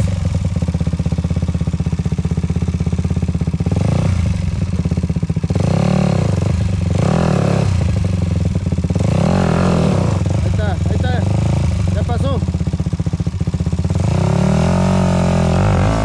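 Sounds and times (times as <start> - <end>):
dirt bike engine idling and revving: 0.0 - 16.0.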